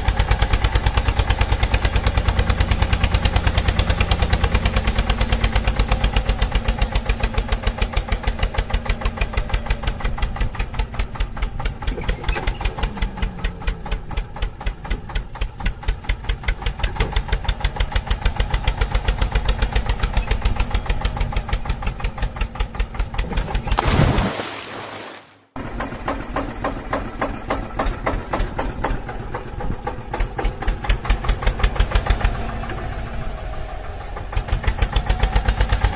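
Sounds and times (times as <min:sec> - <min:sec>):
tractor engine chugging: 0:00.0 - 0:23.8, 0:25.6 - 0:35.9.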